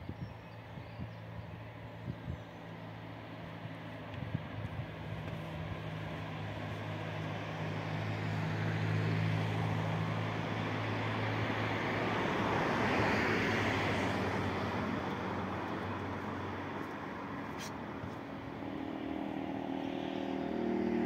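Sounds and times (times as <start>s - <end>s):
low engine hum: 0.0s - 21.0s
passing vehicle rushing: 3.6s - 21.0s.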